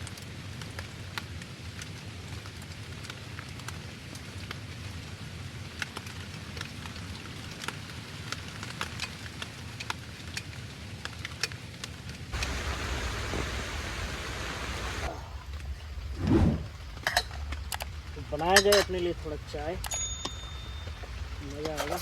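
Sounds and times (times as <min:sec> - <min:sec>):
rain with drops tapping: 0:00.0 - 0:22.0.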